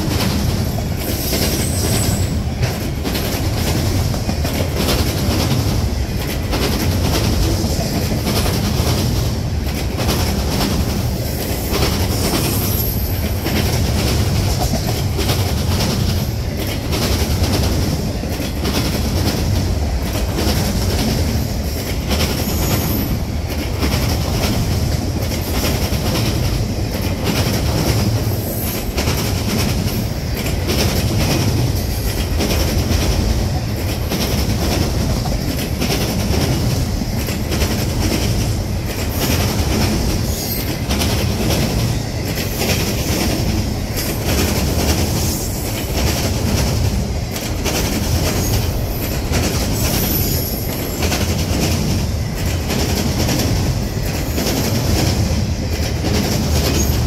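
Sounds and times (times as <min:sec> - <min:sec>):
train wheels rumbling on rail: 0:00.0 - 0:57.0
wheels clicking over rail joints: 0:00.0 - 0:57.0.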